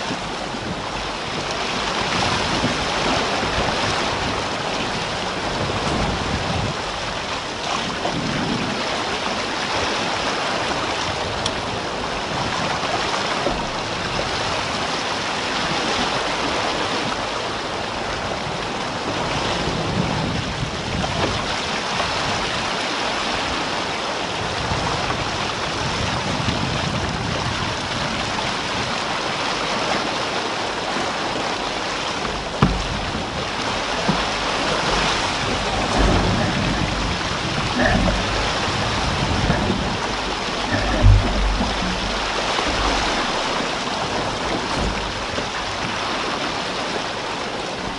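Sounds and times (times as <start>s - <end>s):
water rushing along boat hull: 0.0s - 47.9s.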